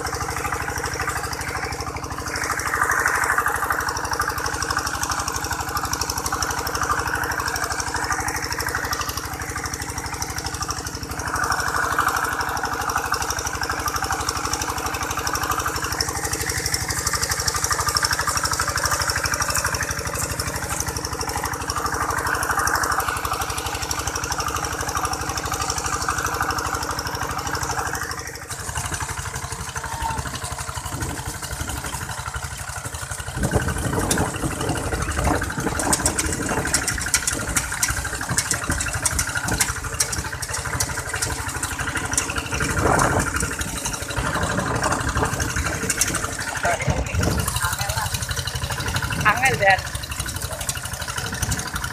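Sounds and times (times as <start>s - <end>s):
diesel tractor engine running: 0.0s - 51.9s.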